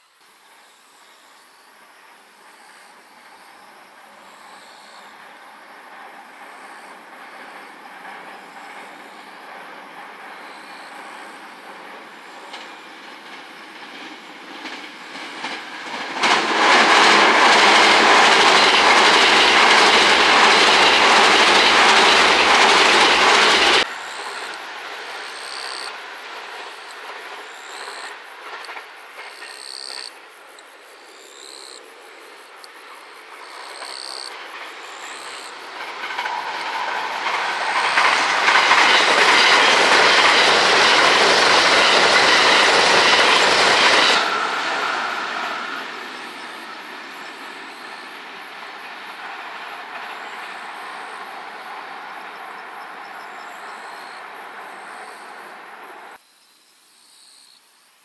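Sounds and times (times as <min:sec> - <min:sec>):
train rumbling over bridge: 0:01.6 - 0:56.2.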